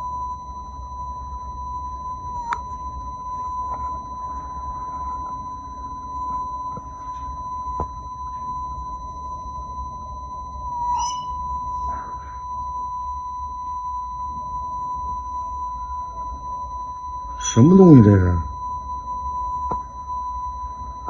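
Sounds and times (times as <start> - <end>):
steady high-pitched whine: 0.0 - 21.0.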